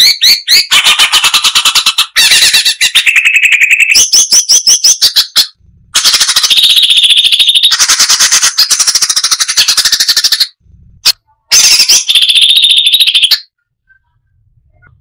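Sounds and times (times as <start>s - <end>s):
bird singing rapid repeated notes: 0.0s - 10.6s, 11.5s - 15.0s.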